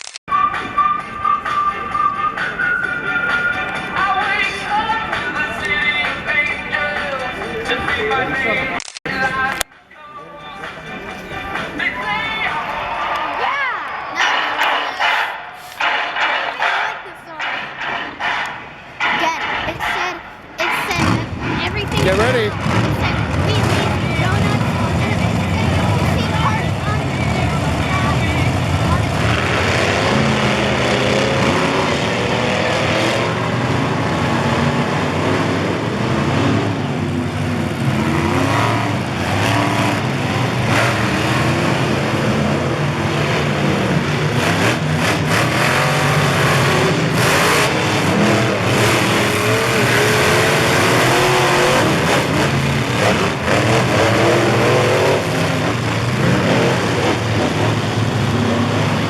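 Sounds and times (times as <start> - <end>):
monster truck engines revving: 0.0 - 59.0.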